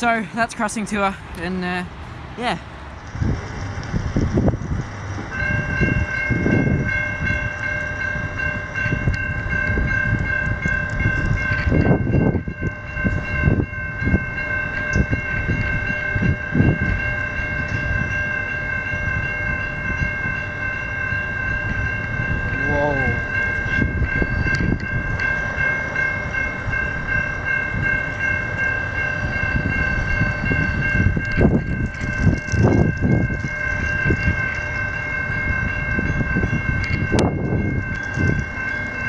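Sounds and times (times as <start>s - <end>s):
level crossing warning bells: 0.0s - 2.8s, 5.6s - 39.0s.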